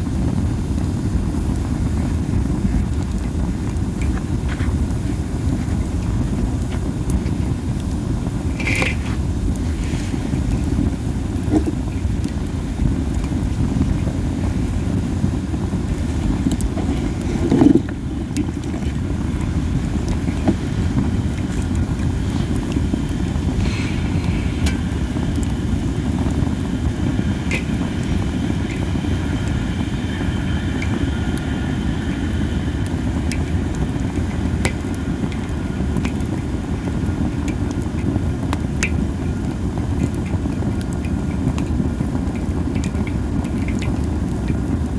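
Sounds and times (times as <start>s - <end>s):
campfire crackling and popping: 0.0s - 44.9s
thin hiss from burning wood: 0.0s - 44.9s.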